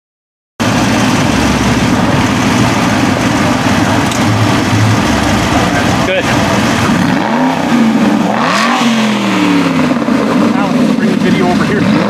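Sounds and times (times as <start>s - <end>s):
car engine idling: 0.6s - 12.0s.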